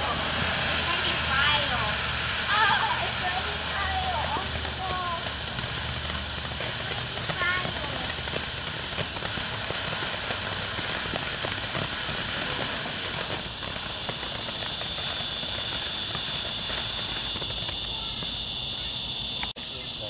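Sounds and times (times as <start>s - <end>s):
firework fountain hissing and crackling: 0.0s - 20.0s.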